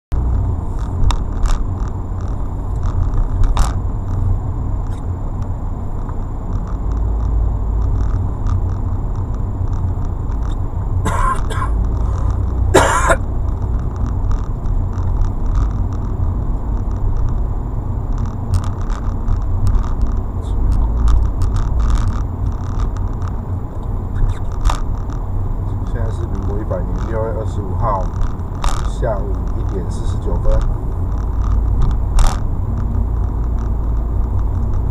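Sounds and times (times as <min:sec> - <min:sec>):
car engine and road rumble: 0:00.1 - 0:34.9
small clicks and knocks: 0:00.2 - 0:34.9.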